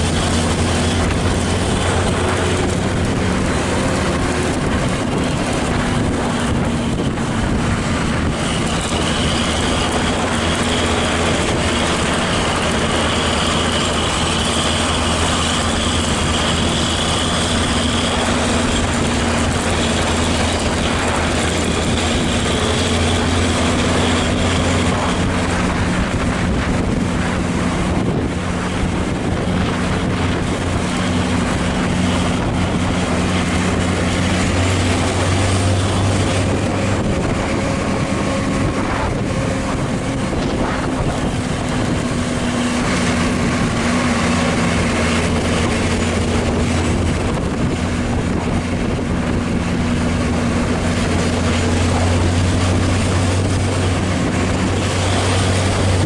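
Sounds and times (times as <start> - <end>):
road and tyre noise: 0.0 - 56.0
vehicle engines droning uphill: 0.0 - 56.0
wind on microphone: 0.0 - 56.0.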